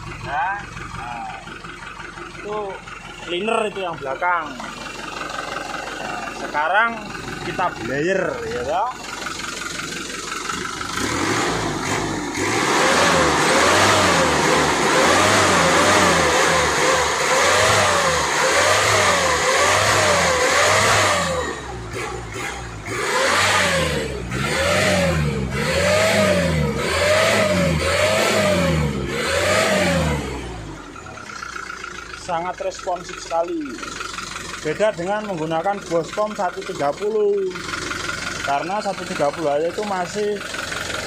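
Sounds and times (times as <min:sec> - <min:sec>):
diesel truck engine revving: 0:00.0 - 0:41.0.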